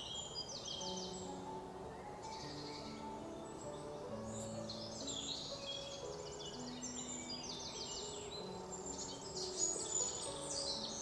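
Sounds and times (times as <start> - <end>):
soft background music: 0.0 - 11.0
songbirds chirping and trilling: 0.0 - 11.0.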